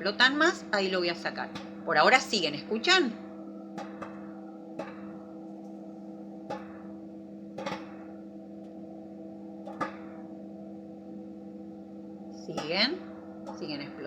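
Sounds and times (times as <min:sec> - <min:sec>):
popcorn popping: 0:00.0 - 0:10.6, 0:11.8 - 0:14.0
microwave oven humming: 0:00.0 - 0:14.0.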